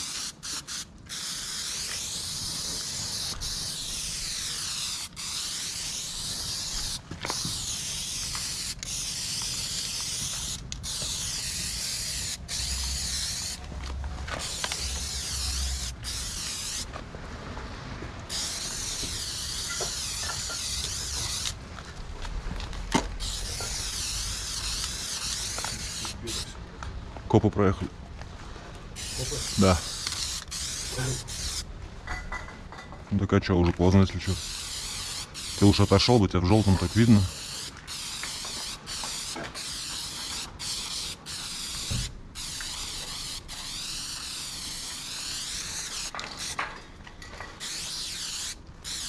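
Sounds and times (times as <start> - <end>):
spray paint can hissing: 0.0 - 13.6, 14.3 - 16.9, 18.3 - 21.6, 23.0 - 26.6, 29.0 - 31.6, 34.3 - 46.6, 47.6 - 49.0.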